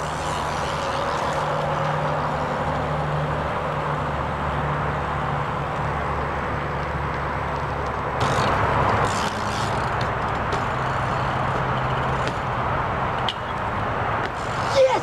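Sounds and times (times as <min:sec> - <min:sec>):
outdoor noise: 0:00.0 - 0:15.0.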